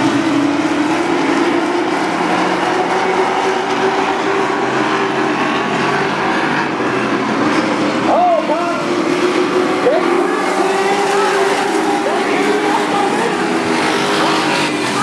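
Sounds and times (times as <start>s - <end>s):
race truck engines: 0.0s - 15.0s.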